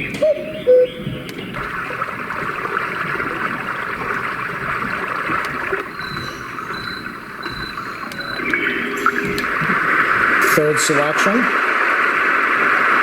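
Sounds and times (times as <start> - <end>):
running water noise: 0.0 - 13.0.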